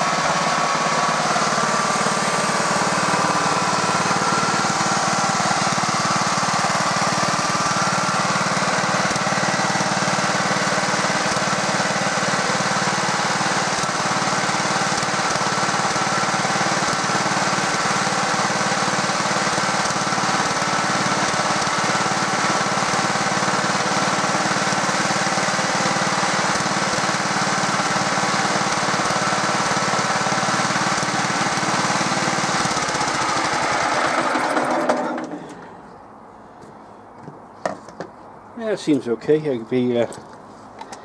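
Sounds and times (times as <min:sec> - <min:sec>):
small single-cylinder engine running: 0:00.0 - 0:35.9.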